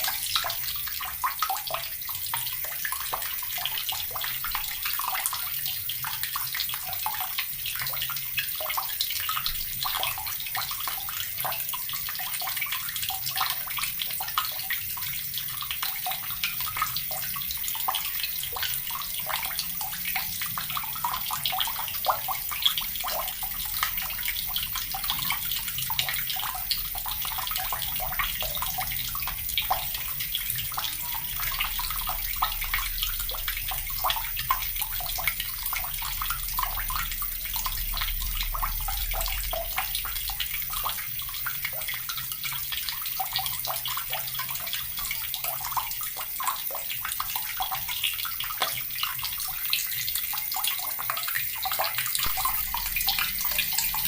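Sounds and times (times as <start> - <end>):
tap water running and splashing: 0.0 - 54.0.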